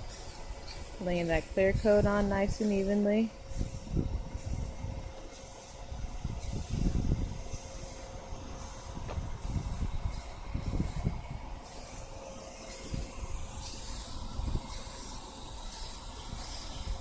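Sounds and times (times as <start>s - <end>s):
paint spray gun hissing: 0.0s - 17.0s.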